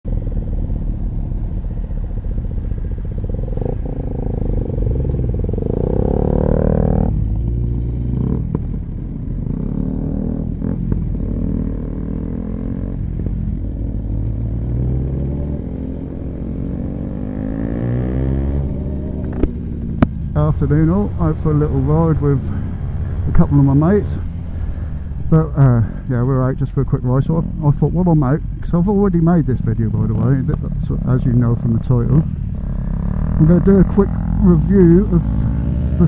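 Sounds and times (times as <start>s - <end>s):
motorcycle engine accelerating: 0.0s - 26.6s, 28.9s - 36.0s.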